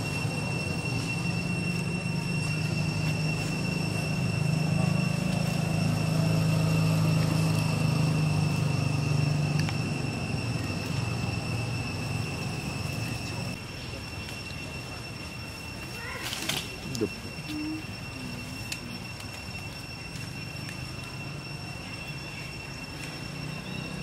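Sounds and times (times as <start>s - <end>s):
low engine rumble: 0.0s - 24.0s
thin high whine: 0.0s - 24.0s.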